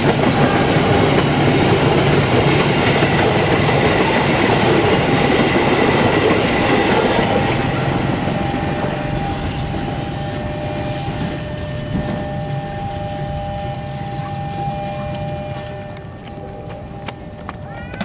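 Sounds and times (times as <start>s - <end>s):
train coaches rumbling on track: 0.0s - 18.0s.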